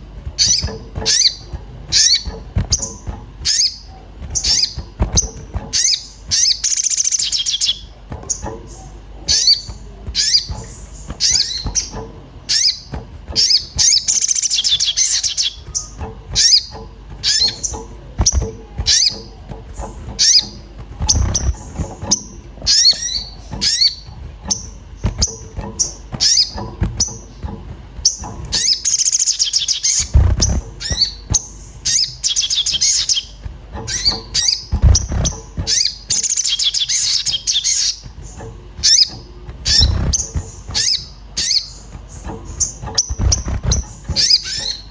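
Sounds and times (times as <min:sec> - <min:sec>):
low thumps: 0:00.0 - 0:06.7, 0:07.8 - 0:44.9
bird chattering rapidly: 0:00.4 - 0:44.9.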